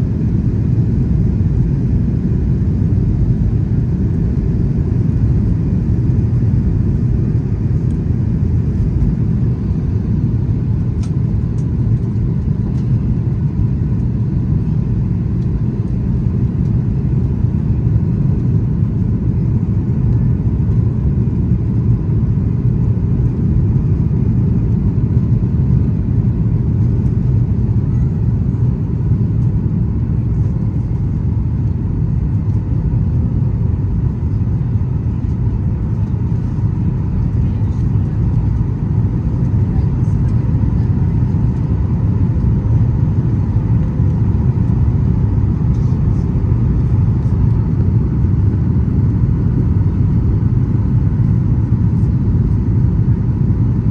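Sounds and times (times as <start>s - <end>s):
faint steady whine: 0.0s - 53.9s
jet engine rumble: 0.0s - 53.9s.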